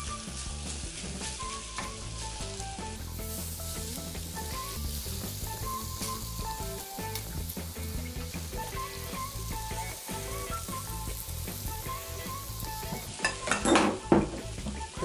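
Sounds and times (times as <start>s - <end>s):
background music: 0.0s - 15.0s
potato batter sizzling in pan: 0.0s - 15.0s.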